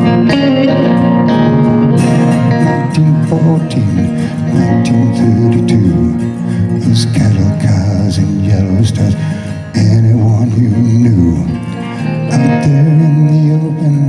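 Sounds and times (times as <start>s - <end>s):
acoustic guitar strumming: 0.0s - 14.0s
electric guitars: 0.0s - 14.0s.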